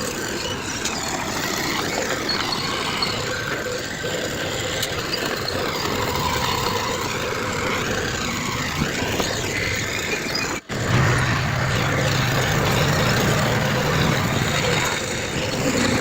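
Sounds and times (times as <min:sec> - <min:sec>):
heavy machinery diesel engines: 0:00.0 - 0:16.0
high gliding squeals: 0:00.0 - 0:16.0.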